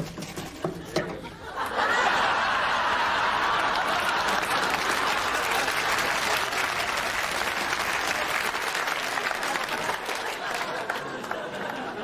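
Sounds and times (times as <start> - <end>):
audience laughing: 0.6 - 12.0
audience applauding: 1.8 - 12.0.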